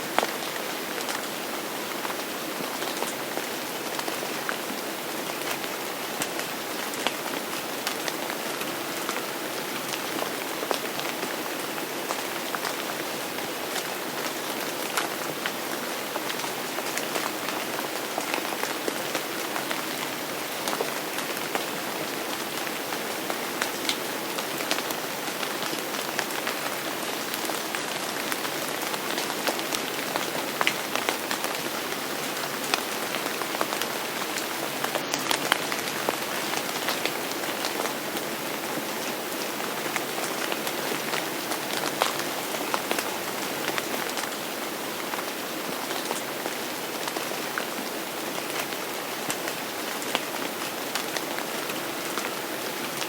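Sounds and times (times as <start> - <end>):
steady rain pattering: 0.0 - 53.0.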